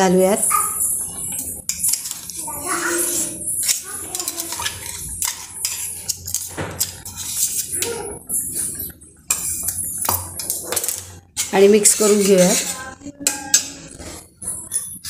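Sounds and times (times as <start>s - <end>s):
metal utensil scraping steel bowl: 0.4s - 15.0s.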